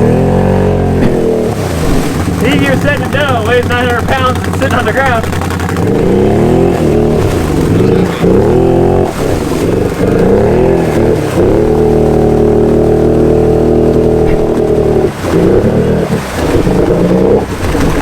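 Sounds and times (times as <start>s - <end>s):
quad engine revving: 0.0s - 18.0s.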